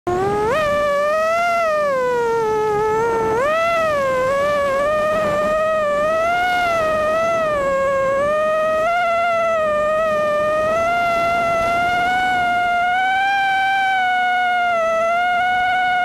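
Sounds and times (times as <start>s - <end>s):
drone motors whining: 0.1s - 16.0s.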